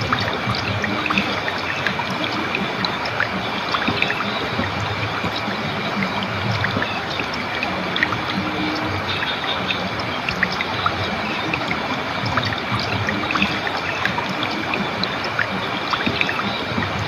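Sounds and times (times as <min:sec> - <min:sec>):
small water splashes: 0:00.0 - 0:17.0
water flowing and trickling: 0:00.0 - 0:17.0.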